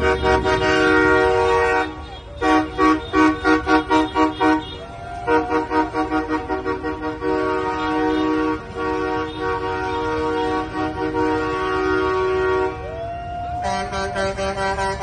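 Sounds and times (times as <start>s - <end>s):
truck air horns honking: 0.0s - 15.0s.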